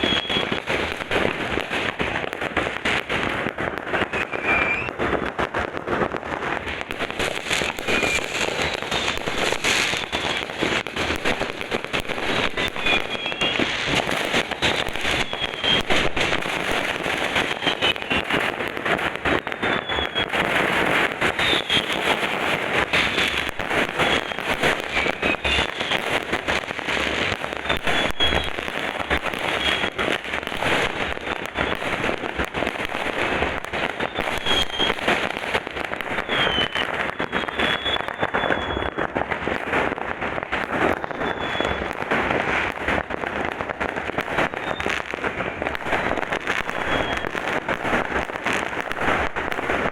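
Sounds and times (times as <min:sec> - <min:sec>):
fireworks crackling and banging: 0:00.0 - 0:49.9
fireworks falling whistles: 0:00.0 - 0:49.9.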